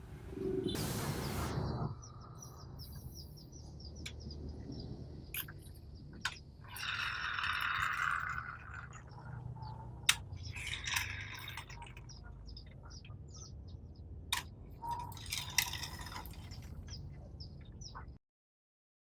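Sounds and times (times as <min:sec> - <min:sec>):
small birds chirping: 0:00.4 - 0:18.2.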